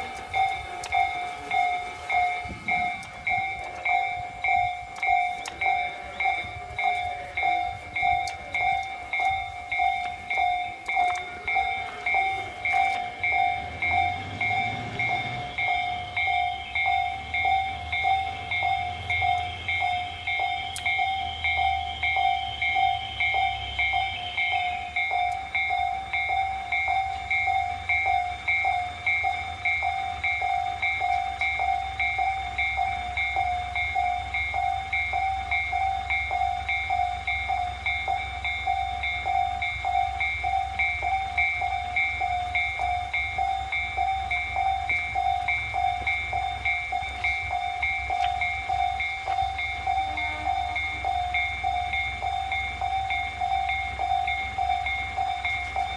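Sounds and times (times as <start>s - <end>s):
high whine: 0.0s - 55.9s
level crossing alarm bell: 0.0s - 55.9s.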